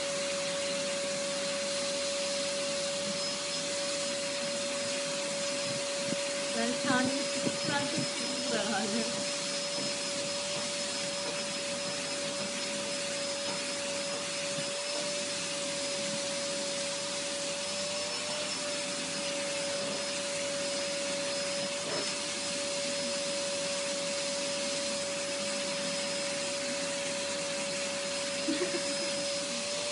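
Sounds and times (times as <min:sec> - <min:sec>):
vacuum cleaner whining: 0:00.0 - 0:29.9.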